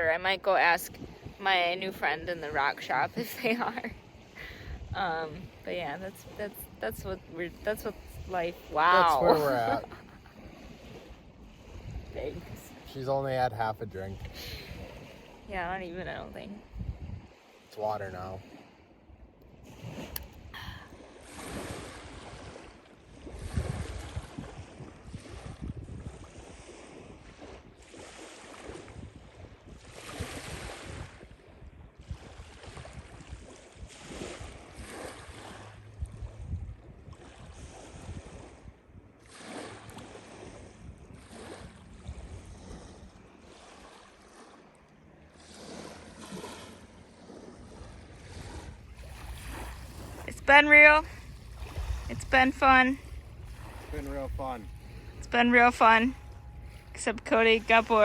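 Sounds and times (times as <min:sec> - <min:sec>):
wind on microphone: 0:00.0 - 0:44.6, 0:47.2 - 0:58.0
small waves washing onto beach: 0:00.0 - 0:58.0.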